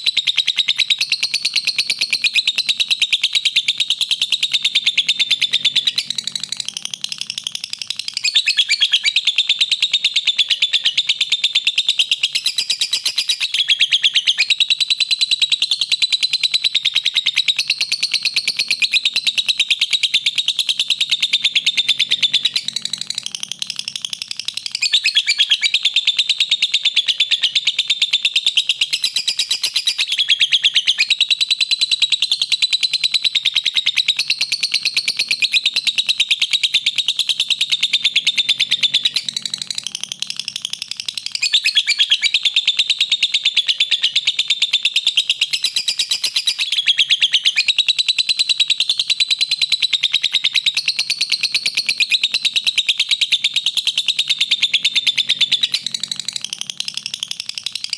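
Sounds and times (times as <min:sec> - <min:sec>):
bird chattering song: 0:00.0 - 0:57.9.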